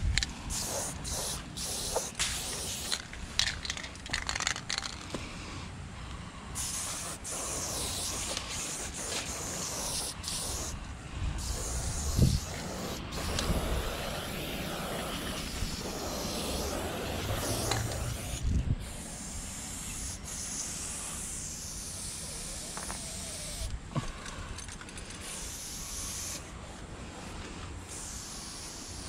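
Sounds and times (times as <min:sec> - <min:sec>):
spray paint can hissing: 0:00.5 - 0:05.0, 0:06.5 - 0:10.8, 0:11.4 - 0:23.7, 0:25.1 - 0:26.4, 0:27.9 - 0:29.0.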